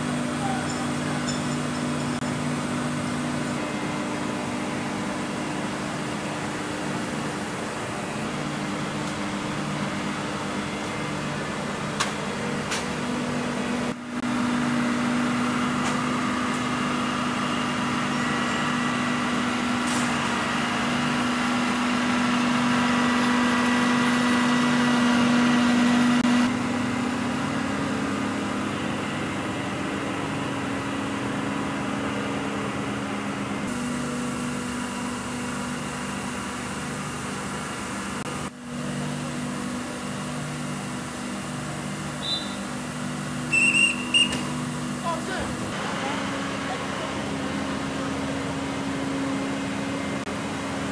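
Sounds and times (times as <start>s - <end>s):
vehicle engine droning: 0.0s - 50.9s.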